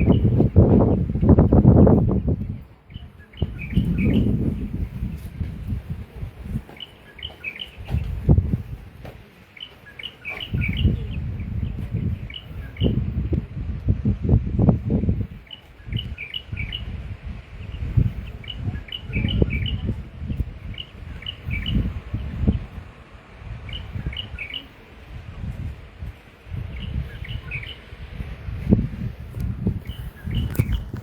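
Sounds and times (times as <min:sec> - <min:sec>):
small birds chirping: 0:02.0 - 0:13.5, 0:15.1 - 0:31.0.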